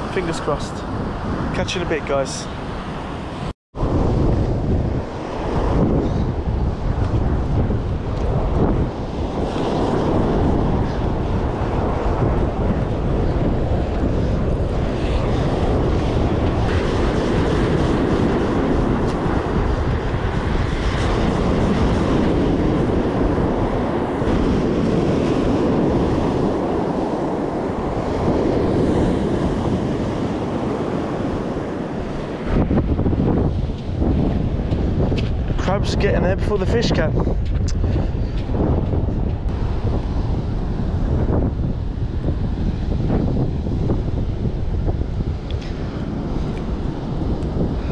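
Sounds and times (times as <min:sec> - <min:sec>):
surf breaking on a beach: 0:00.0 - 0:47.9
wind buffeting microphone: 0:00.0 - 0:47.9.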